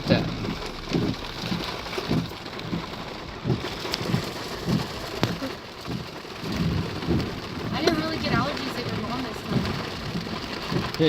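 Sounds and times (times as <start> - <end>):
dull low knocks: 0.0 - 11.0
rain falling: 0.0 - 11.0.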